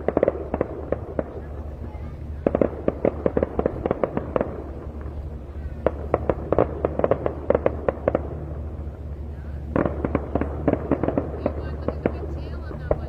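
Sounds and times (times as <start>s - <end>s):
fireworks popping and banging: 0.0s - 13.0s
steady low hum: 0.0s - 13.0s.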